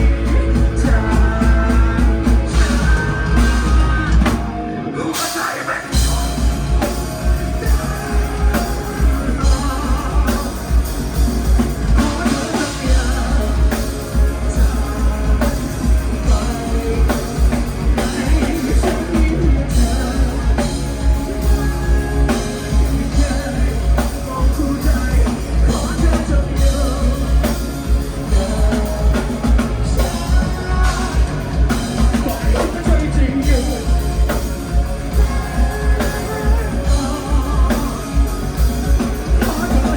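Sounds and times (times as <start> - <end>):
person singing: 0.0 - 39.9
pounding drum kit: 0.0 - 39.9
rock band playing live: 0.0 - 39.9.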